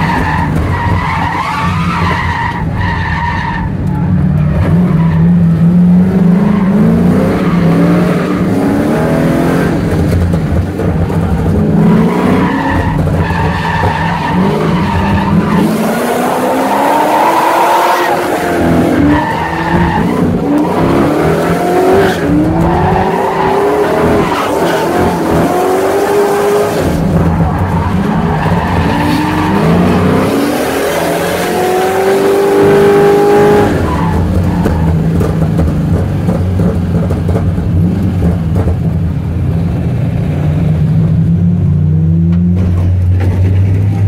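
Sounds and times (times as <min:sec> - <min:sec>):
engines revving: 0:00.0 - 0:44.0.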